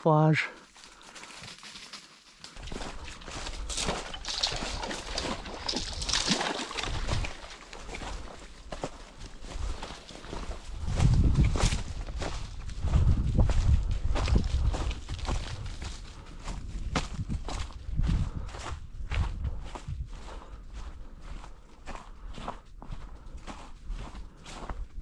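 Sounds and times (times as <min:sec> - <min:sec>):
footsteps crunching through brush: 0:00.6 - 0:25.0.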